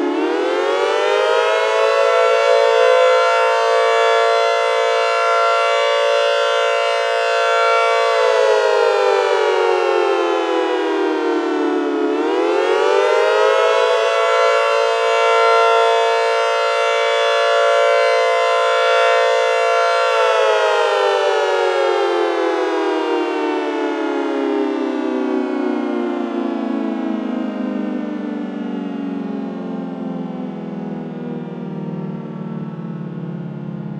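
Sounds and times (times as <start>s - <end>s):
four-tone siren: 0.0s - 33.9s.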